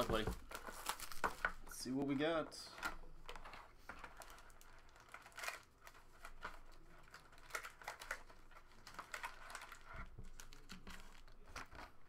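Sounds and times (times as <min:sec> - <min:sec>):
plastic wrapping crinkling and tearing: 0:00.0 - 0:02.1, 0:02.8 - 0:12.0.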